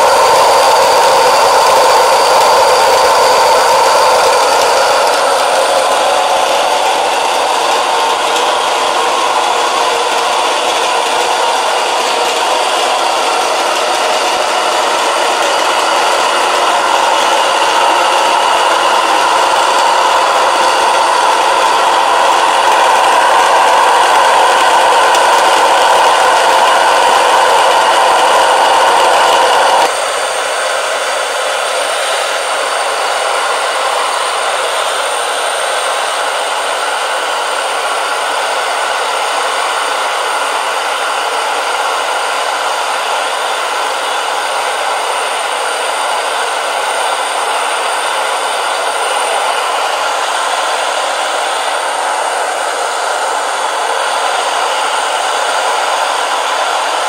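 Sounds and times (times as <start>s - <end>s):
electric stone mill grinding: 0.0s - 57.0s.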